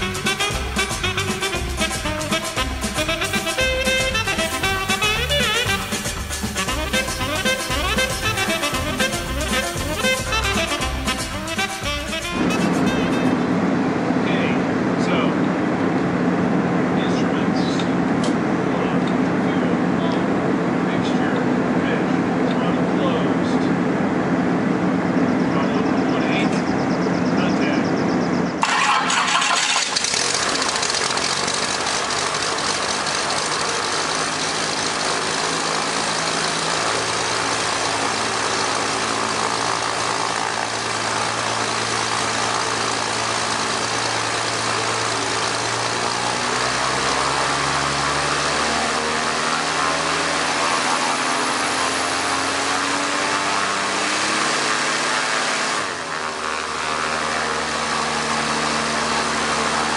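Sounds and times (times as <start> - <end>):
propeller plane engine starting and idling: 0.0 - 59.9.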